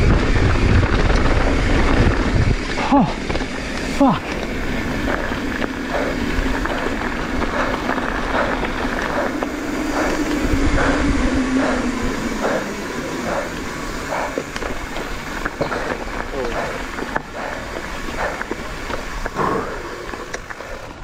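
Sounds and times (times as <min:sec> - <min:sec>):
bike tyres rolling on dirt: 0:00.0 - 0:21.0
steady hum: 0:00.8 - 0:21.0.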